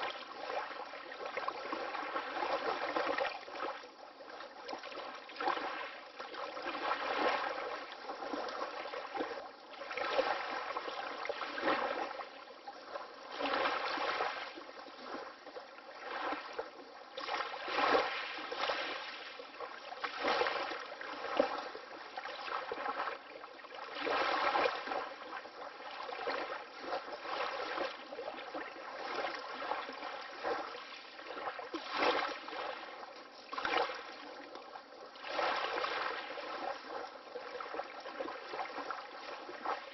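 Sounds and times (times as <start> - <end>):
water lapping in small waves: 0.0 - 39.9.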